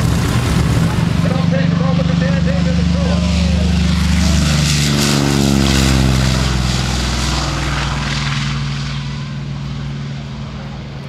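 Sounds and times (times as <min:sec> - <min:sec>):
propeller plane engine passing: 0:00.0 - 0:11.0.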